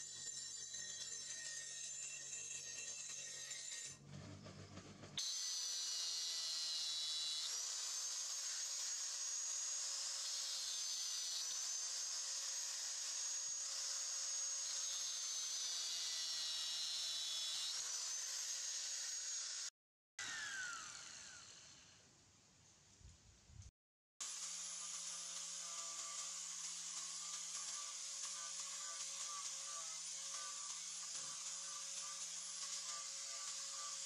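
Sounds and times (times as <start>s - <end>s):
bench grinder wheel grinding: 0.0s - 21.9s, 24.2s - 34.0s
angle grinder whining on steel: 0.0s - 22.1s, 24.2s - 34.0s.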